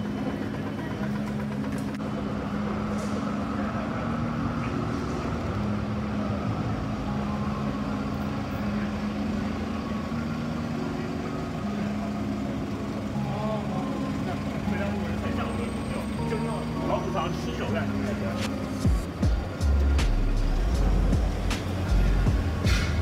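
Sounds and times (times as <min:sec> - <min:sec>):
cars idling and creeping: 0:00.0 - 0:23.0.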